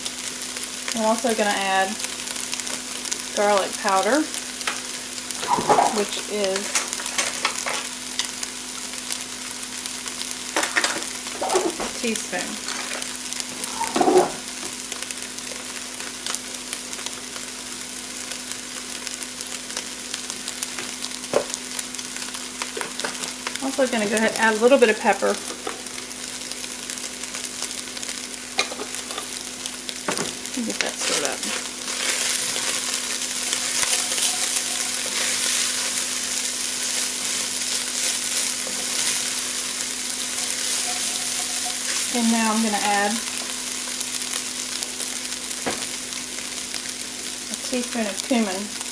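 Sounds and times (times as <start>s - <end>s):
meat sizzling in a frying pan: 0.0s - 48.9s.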